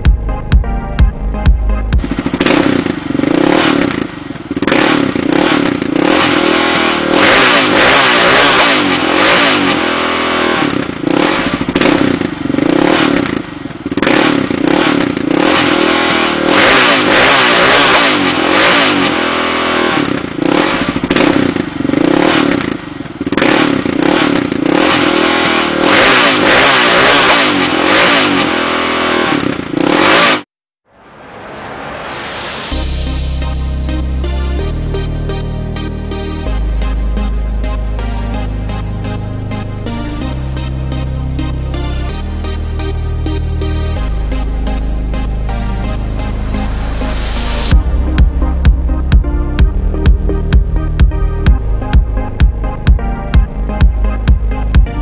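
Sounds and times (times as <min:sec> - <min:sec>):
quad engine revving: 0:00.0 - 0:30.5, 0:31.2 - 0:55.0.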